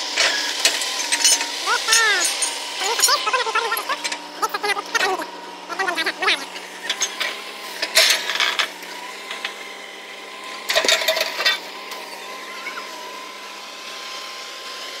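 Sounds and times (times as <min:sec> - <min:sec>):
drilling rig machine drone: 0:00.0 - 0:15.0.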